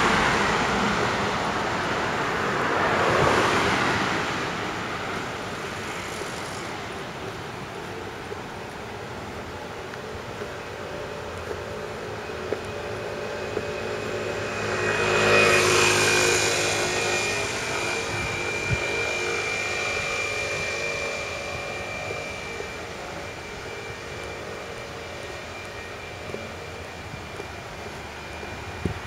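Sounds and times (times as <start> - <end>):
jet aircraft passing overhead: 0.0 - 29.0.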